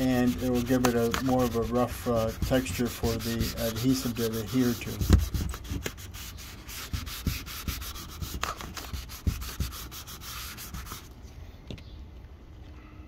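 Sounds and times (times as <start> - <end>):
sandpaper rubbing by hand: 0.0 - 11.1.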